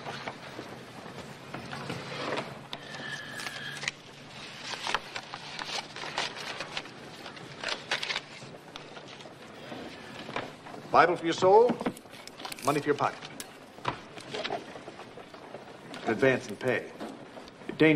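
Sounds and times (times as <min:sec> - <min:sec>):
papers and objects handled on desk: 0:00.0 - 0:17.8.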